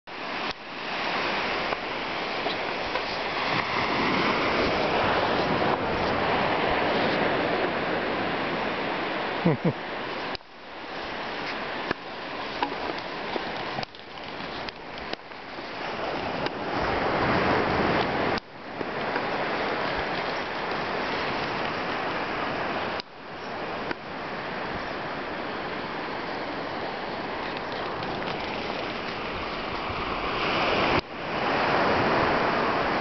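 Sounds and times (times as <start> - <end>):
ocean surf rushing: 0.1 - 33.0.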